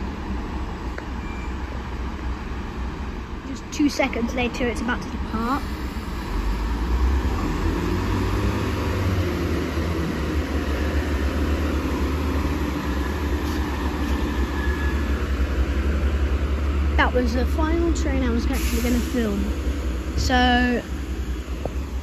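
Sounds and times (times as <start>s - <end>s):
diesel engine rumbling: 0.0s - 22.0s.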